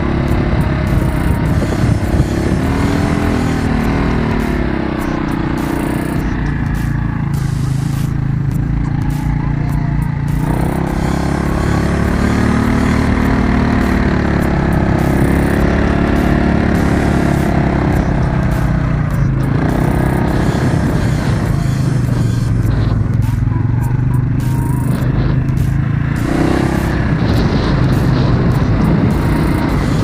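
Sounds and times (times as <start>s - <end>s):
quad bike engine revving: 0.0s - 30.0s.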